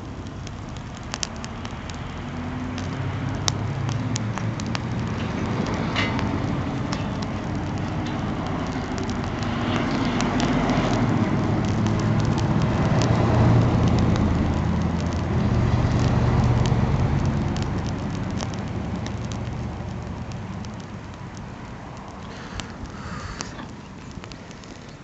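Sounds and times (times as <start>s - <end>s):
car passing rumble: 0.0s - 25.0s
wood fire crackling and popping: 0.0s - 25.0s.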